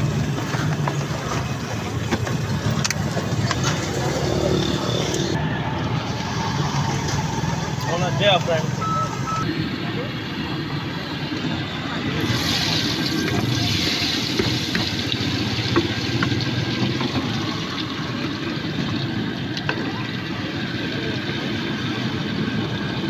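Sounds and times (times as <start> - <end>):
oil sizzling and bubbling: 0.0 - 7.9, 9.6 - 23.0.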